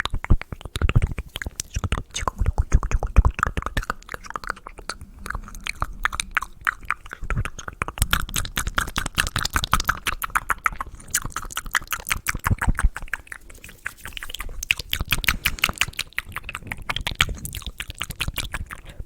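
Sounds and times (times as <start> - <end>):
wet tongue and lip clicks: 0.0 - 19.0.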